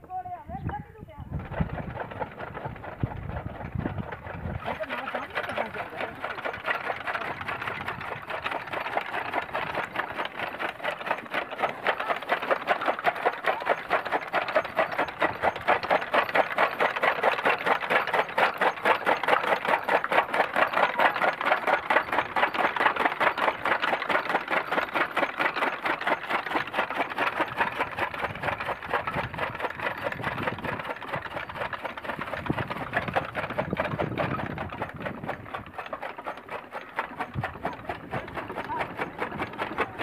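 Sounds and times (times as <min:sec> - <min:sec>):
chaff cutter chopping fodder: 0:01.3 - 0:40.0.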